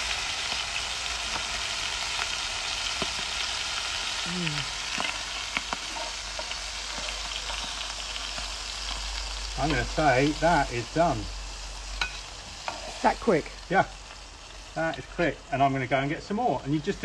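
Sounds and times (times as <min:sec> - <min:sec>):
squid frying in oil: 0:00.0 - 0:17.0.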